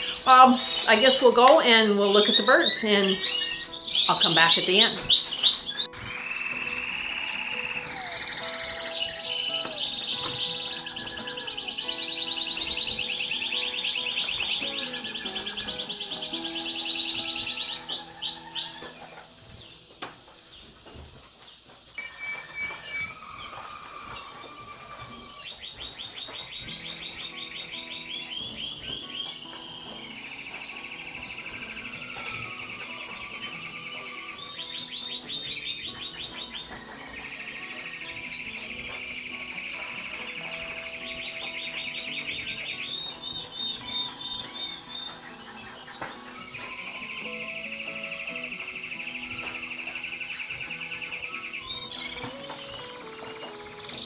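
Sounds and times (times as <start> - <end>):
canaries trilling: 0.0 - 54.0.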